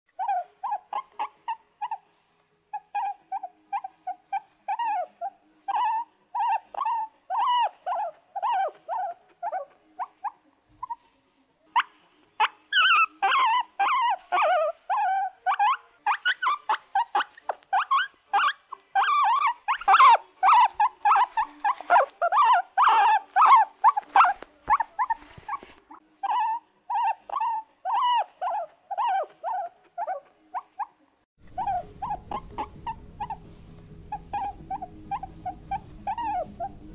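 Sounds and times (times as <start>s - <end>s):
guinea pigs squeaking: 0.1s - 36.9s.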